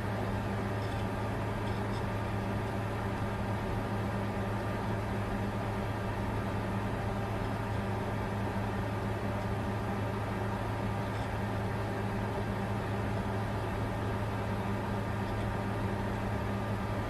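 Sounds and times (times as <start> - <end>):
computer whirring with hum: 0.0 - 17.0.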